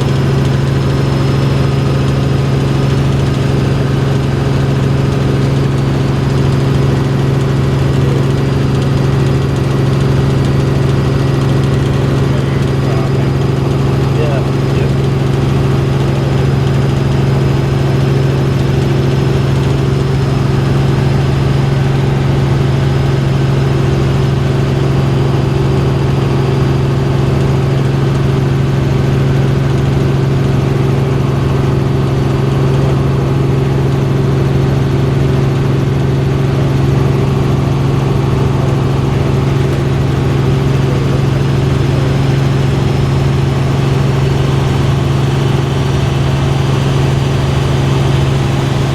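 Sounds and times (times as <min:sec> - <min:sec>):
helicopter droning: 0:00.0 - 0:48.9.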